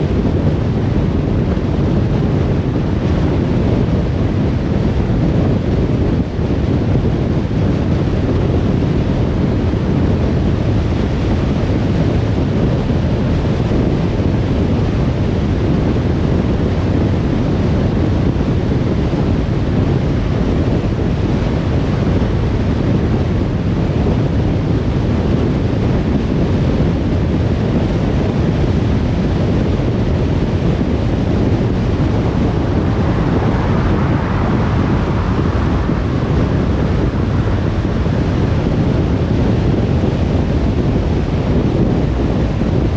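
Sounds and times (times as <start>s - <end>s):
car tyre and wind rumble: 0.0s - 42.9s.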